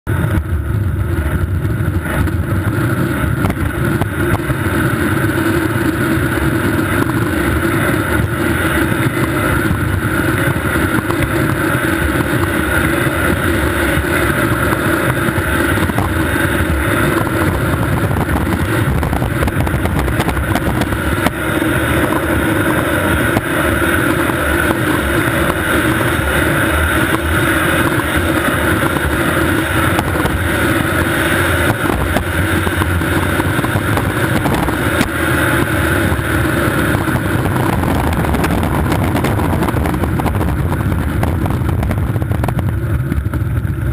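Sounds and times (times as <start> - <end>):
skateboard wheels rolling on asphalt: 0.1 - 43.9.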